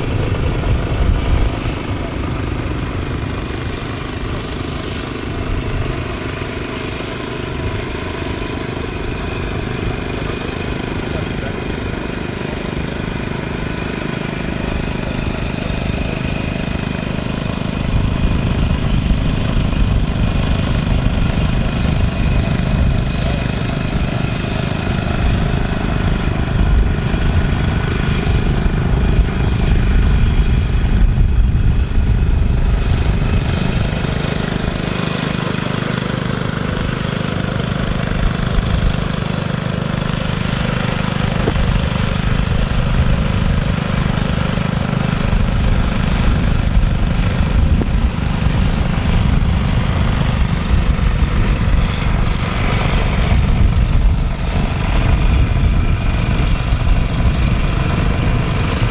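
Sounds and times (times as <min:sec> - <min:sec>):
mower engine running: 0:00.0 - 0:58.9.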